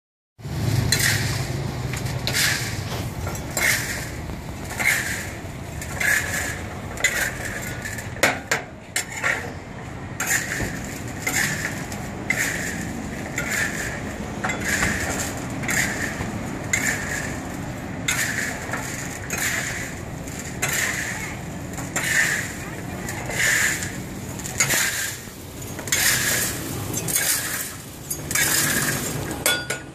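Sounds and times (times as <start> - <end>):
spatula scraping pebbles in wok: 0.4 - 8.2, 8.9 - 29.4.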